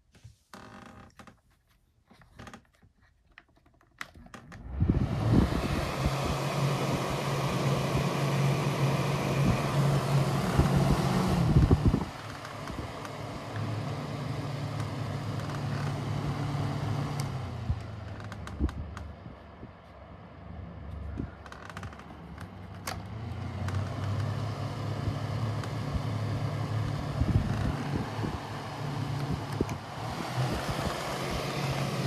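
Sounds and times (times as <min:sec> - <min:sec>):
desk fan motor humming: 0:04.0 - 0:32.0.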